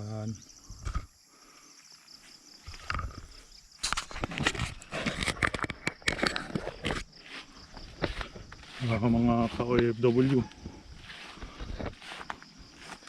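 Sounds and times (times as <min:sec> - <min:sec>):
insects chirring: 0:00.0 - 0:13.0
footsteps on ground: 0:00.7 - 0:13.0.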